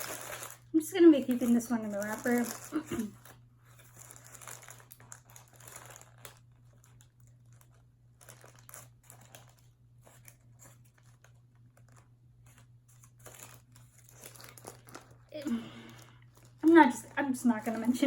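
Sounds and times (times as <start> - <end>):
paper wrapper crinkling: 0.0 - 18.0.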